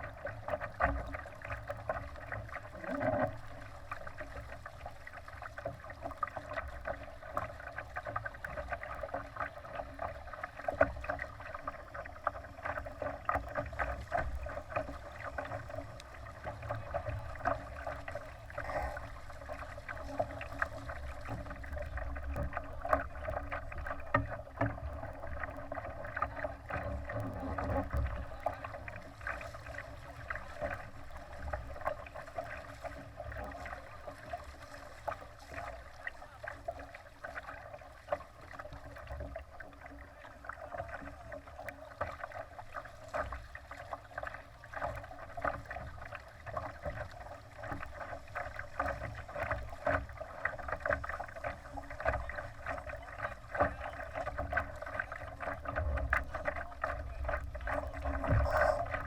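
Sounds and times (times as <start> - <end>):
water slapping against boat hull: 0.0 - 59.0.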